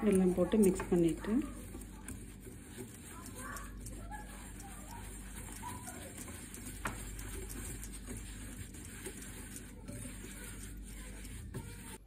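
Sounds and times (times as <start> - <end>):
whisk stirring dry flour in bowl: 0.0 - 12.0
whisk wires ticking against bowl: 0.0 - 12.0.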